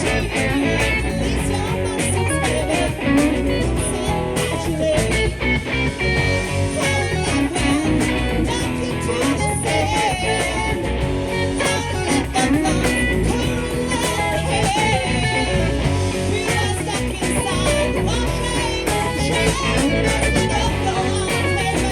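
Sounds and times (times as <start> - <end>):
live rock band: 0.0 - 21.9.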